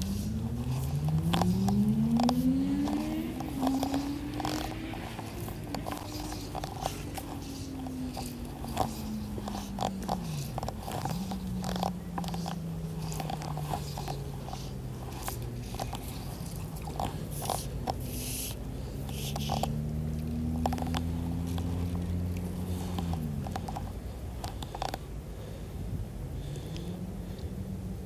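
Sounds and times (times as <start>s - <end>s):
sharp clicks of fishing gear: 0.0s - 25.2s
low steady hum: 0.0s - 28.0s.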